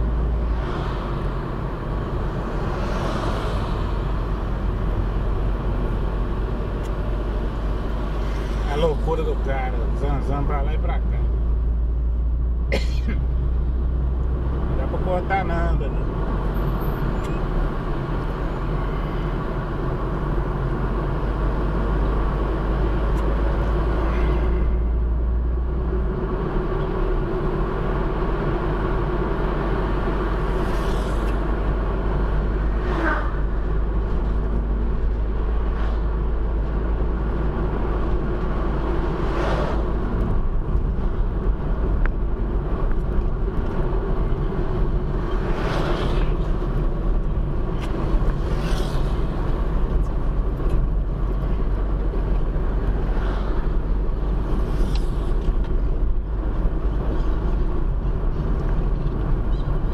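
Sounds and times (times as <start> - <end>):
car engine and tyre rumble: 0.0 - 59.9
vehicles passing by: 0.0 - 59.9.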